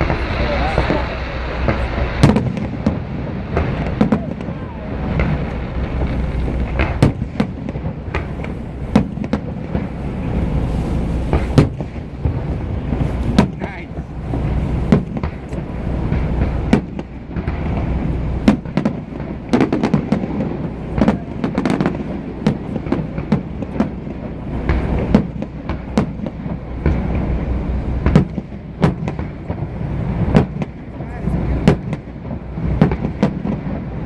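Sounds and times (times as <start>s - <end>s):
fireworks bangs: 0.0s - 34.0s
low rumble: 0.0s - 34.0s.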